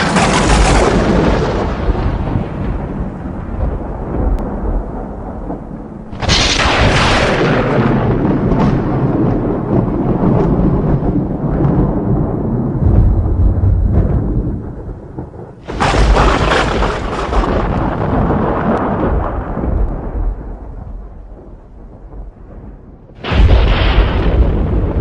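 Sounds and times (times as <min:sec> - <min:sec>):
loud thunderclap: 0:00.0 - 0:25.0
thunder rumbling: 0:00.0 - 0:25.0.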